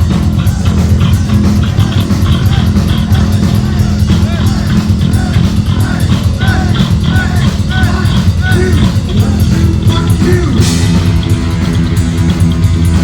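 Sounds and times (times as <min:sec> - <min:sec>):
distorted electric guitar: 0:00.0 - 0:13.0
heavy metal band playing: 0:00.0 - 0:13.0.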